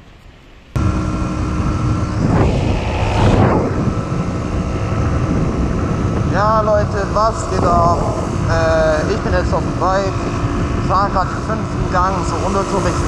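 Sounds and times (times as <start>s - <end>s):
two-stroke motorcycle engine running: 0.8s - 13.0s
wind rush: 0.8s - 13.0s.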